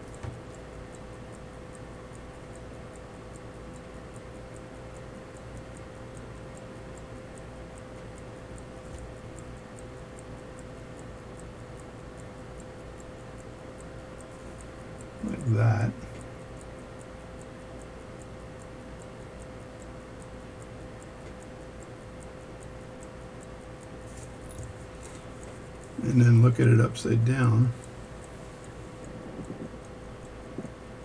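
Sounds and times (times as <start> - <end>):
steady hum: 0.0 - 31.0
watch ticking rapidly: 0.0 - 31.0.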